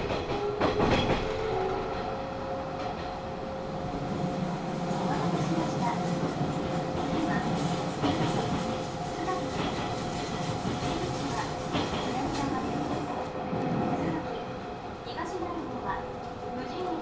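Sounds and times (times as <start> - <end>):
electric train hum: 0.0 - 17.0.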